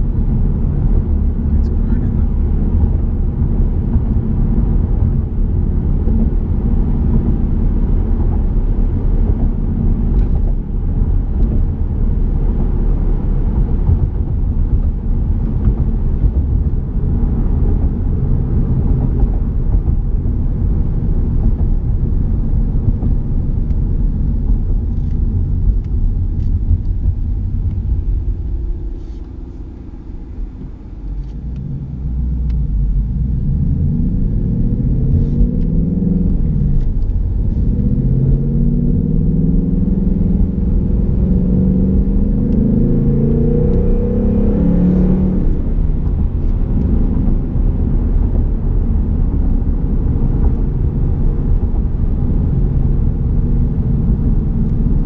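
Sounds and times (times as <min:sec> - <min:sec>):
car engine droning: 0:00.0 - 0:55.0
road rumble: 0:00.0 - 0:55.0.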